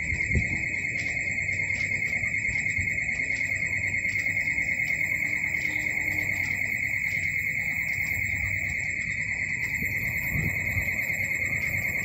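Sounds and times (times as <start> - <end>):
pulsing electronic warning tone: 0.0 - 12.0.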